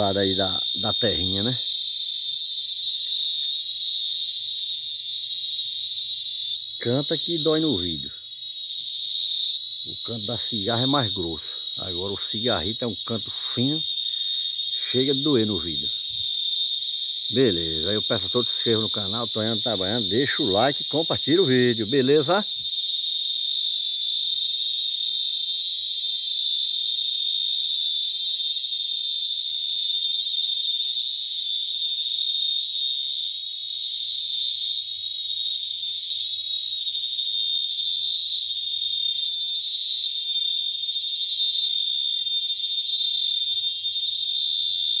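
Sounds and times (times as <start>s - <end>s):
cicadas buzzing shrilly: 0.0s - 45.0s.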